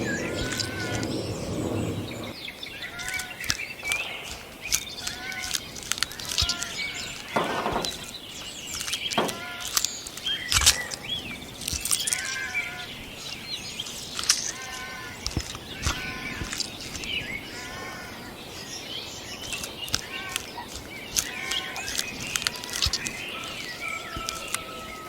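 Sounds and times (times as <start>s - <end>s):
squirrel calls: 0.0s - 11.2s, 12.0s - 25.0s.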